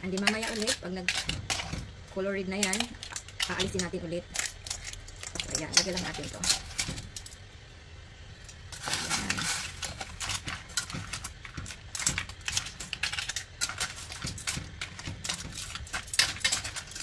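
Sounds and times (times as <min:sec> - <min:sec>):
crab shells clattering: 0:00.0 - 0:07.4, 0:08.4 - 0:17.0.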